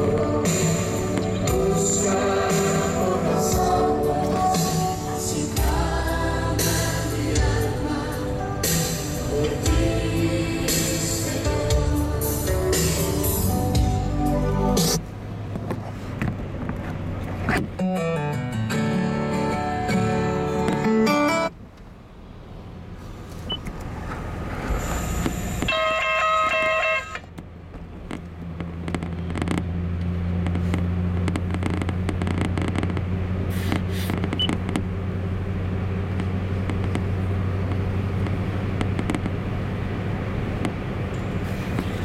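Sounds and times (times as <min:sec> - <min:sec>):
car engine and road hum: 0:00.0 - 0:42.0.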